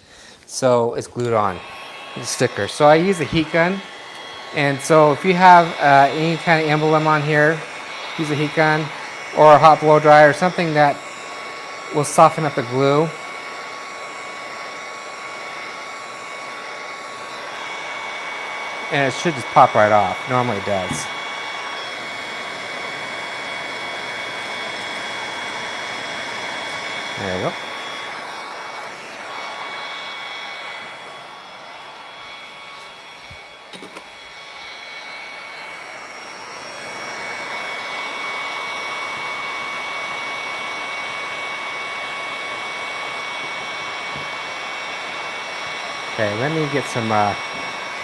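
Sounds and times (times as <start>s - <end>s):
heat gun blowing with high whine: 0.0s - 48.0s.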